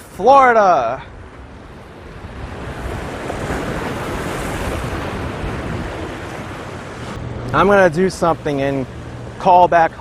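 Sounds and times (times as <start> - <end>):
wind buffeting microphone: 0.0 - 9.4
ocean surf washing in: 0.0 - 10.0.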